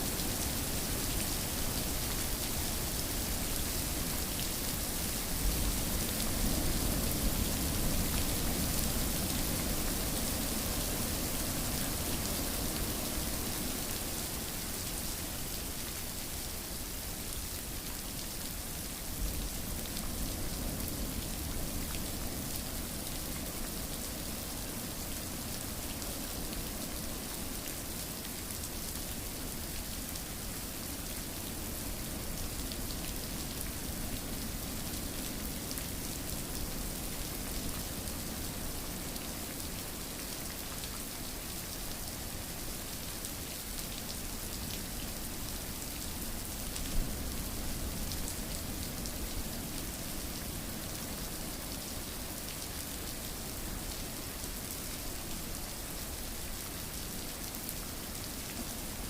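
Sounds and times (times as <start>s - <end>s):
rain pattering: 0.1s - 59.0s.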